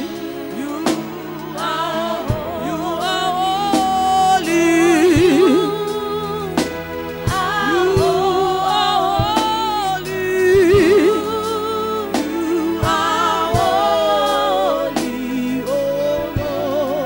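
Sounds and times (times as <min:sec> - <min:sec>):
steady beat: 0:00.0 - 0:17.0
women singing gospel in harmony: 0:00.0 - 0:17.0.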